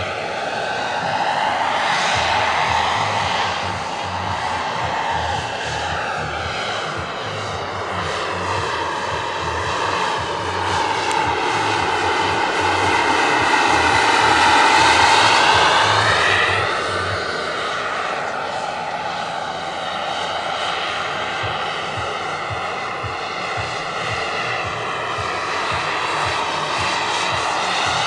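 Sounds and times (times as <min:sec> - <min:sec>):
gas turbine whine: 0:00.0 - 0:28.0
rotor noise: 0:00.0 - 0:28.0.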